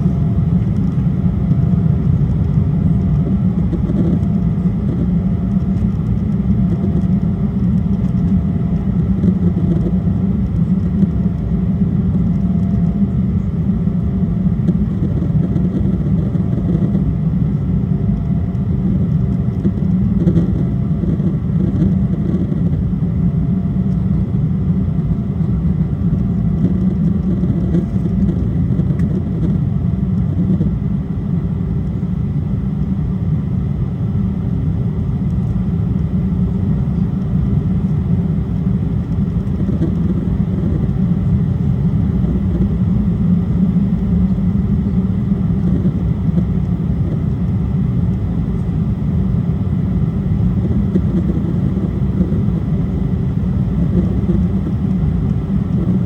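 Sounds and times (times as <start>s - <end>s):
airliner engines rumbling: 0.0s - 56.0s
faint whining tones: 0.0s - 56.0s.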